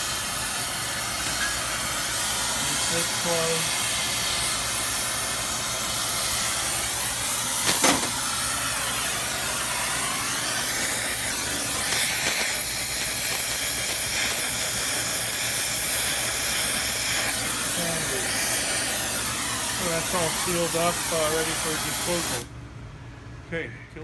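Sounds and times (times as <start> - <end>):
torch flame hissing: 0.0 - 22.5.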